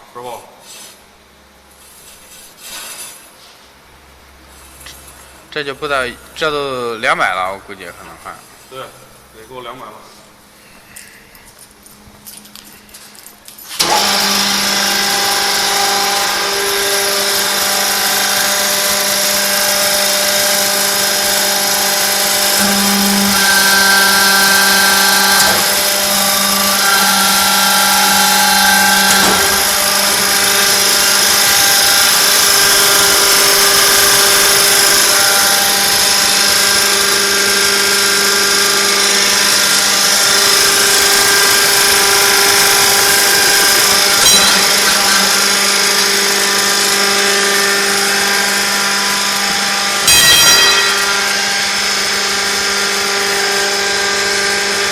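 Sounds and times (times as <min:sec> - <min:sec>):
induction heater whine and hum: 0:00.0 - 0:54.9.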